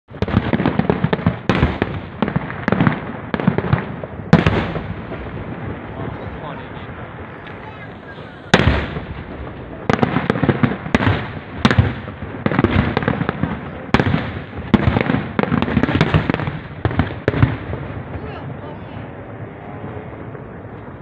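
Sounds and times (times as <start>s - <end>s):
fireworks bangs and booms: 0.1s - 21.0s.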